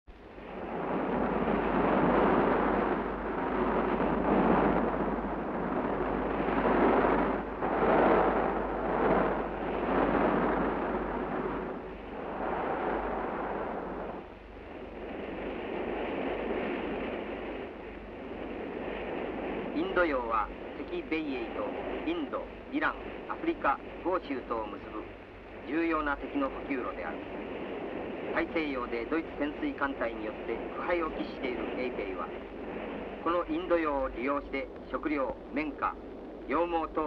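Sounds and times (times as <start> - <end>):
rushing wind: 0.1 - 37.0
sea noise: 0.1 - 37.0
steady low hum: 0.1 - 37.0.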